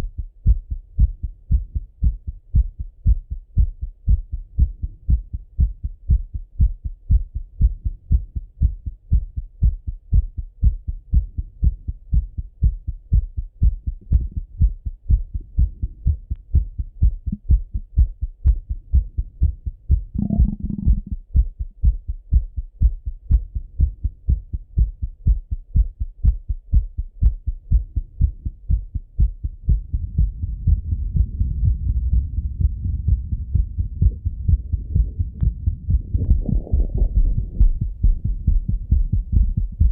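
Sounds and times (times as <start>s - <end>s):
heartbeat through stethoscope: 0.0s - 39.9s
low rumble: 0.0s - 39.9s.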